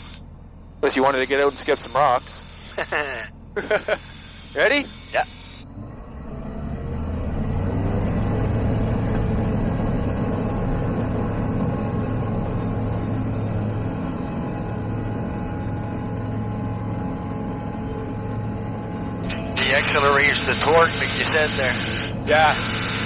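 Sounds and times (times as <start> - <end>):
propeller aircraft engine at full power: 0.0 - 23.0.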